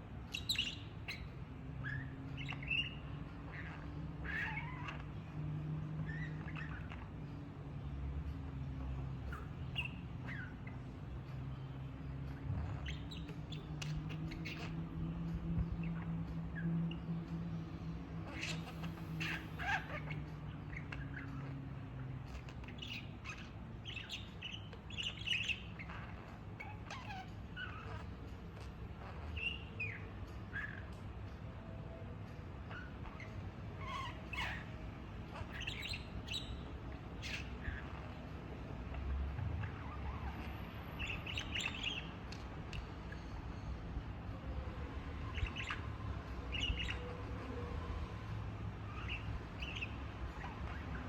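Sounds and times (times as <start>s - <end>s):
budgerigar chirping: 0.2s - 5.3s, 5.9s - 7.4s, 8.6s - 17.6s, 18.2s - 31.1s, 32.6s - 43.7s, 44.5s - 48.2s, 48.8s - 51.0s.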